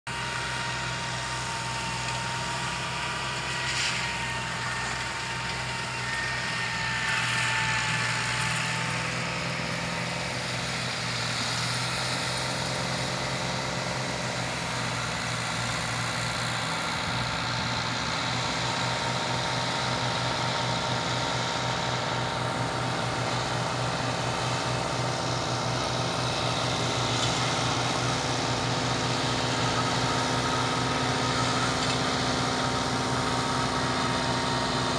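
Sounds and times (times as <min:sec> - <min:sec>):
tractor and mower droning: 0:00.1 - 0:34.9.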